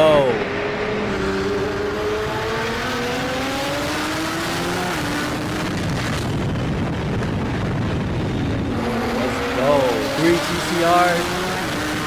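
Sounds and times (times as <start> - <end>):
car accelerating hard: 0.0 - 12.0.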